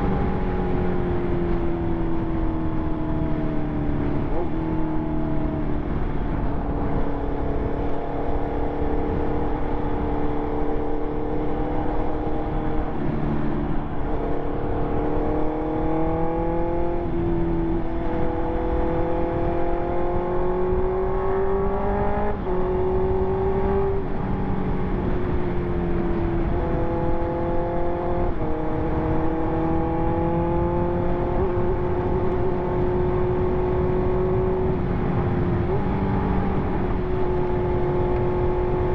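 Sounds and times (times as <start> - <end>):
motorcycle engine changing gears: 0.0 - 38.9
wind and road noise: 0.0 - 38.9.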